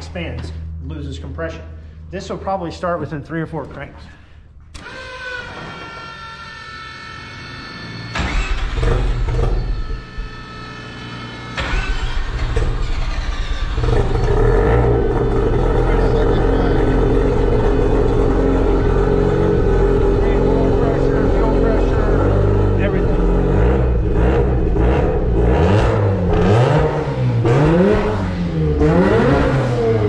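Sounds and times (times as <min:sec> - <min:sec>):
rotary engine cranking and idling: 0:00.0 - 0:30.0.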